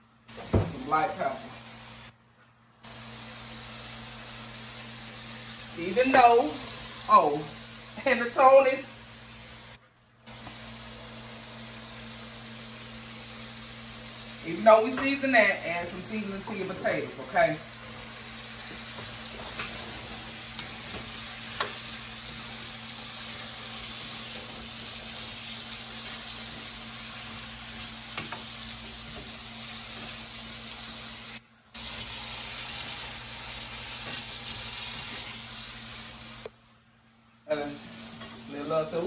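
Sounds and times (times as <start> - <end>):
potatoes sizzling in a pan: 2.8 - 39.0.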